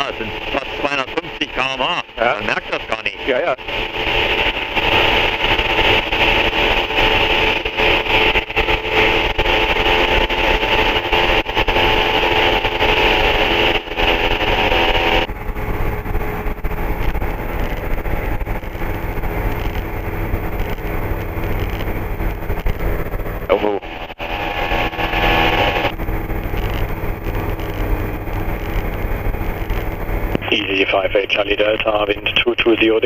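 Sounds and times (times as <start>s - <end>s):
aircraft engine droning: 0.0s - 33.0s.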